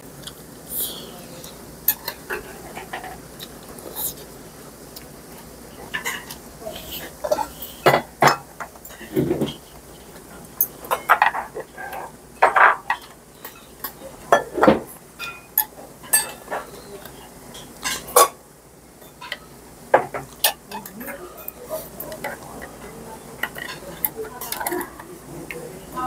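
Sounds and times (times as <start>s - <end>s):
metal utensils clinking on bowls: 1.4s - 4.2s, 5.8s - 18.4s, 19.0s - 25.6s.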